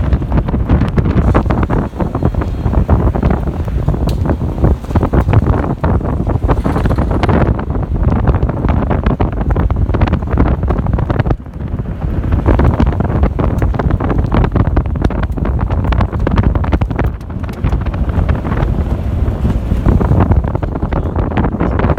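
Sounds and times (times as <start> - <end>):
van rumbling on dirt road: 0.0 - 21.9
wind buffeting microphone: 0.0 - 21.9.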